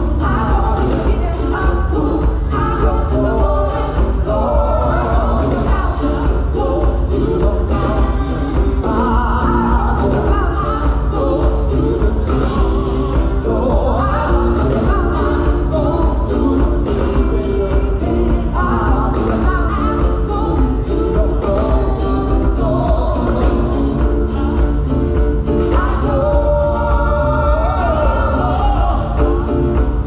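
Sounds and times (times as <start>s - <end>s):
choir singing with a band: 0.0s - 30.0s.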